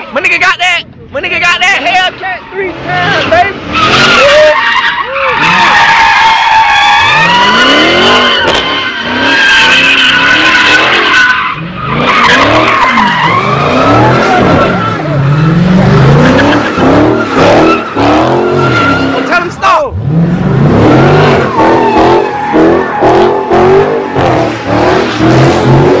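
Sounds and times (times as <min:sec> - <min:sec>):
tyres screeching: 0:01.6 - 0:26.0
car engine revving: 0:02.1 - 0:26.0.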